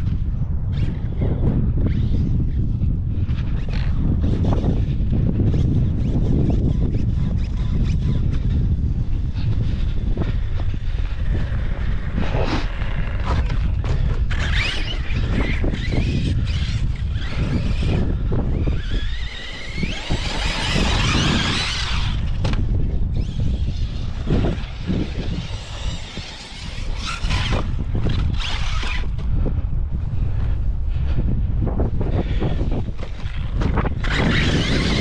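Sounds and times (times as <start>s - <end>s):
wind rumble on microphone: 0.0s - 35.0s
rc truck motor whining: 0.7s - 29.6s, 32.0s - 35.0s.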